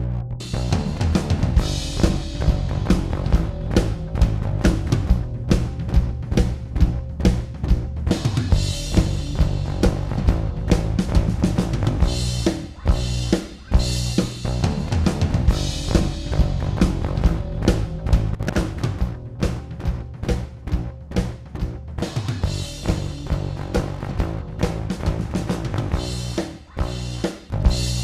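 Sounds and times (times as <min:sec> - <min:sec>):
bass guitar line: 0:00.0 - 0:28.0.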